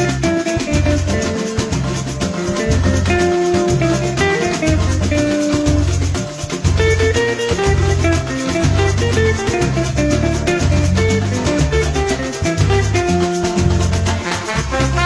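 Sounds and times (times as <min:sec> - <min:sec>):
bass line: 0:00.0 - 0:15.0
plucked strings: 0:00.0 - 0:15.0
shaker beat: 0:00.0 - 0:15.0.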